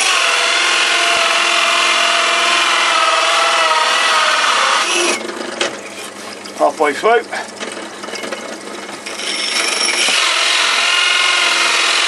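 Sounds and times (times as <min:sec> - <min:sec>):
hole saw cutting through wood: 0:00.0 - 0:08.2, 0:09.0 - 0:12.0
drill motor hum: 0:00.0 - 0:12.0.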